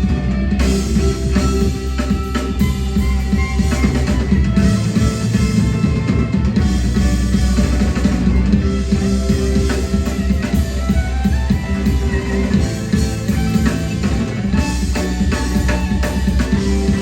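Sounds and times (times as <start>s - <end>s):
bass: 0.0s - 17.0s
drum kit: 0.0s - 17.0s
guitar: 0.0s - 17.0s.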